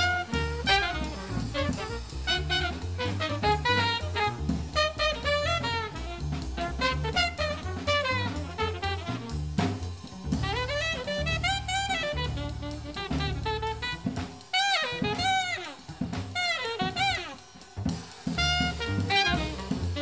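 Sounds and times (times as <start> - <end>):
bass: 0.0 - 20.0
drum kit: 0.0 - 20.0
jazz saxophone melody: 0.0 - 20.0.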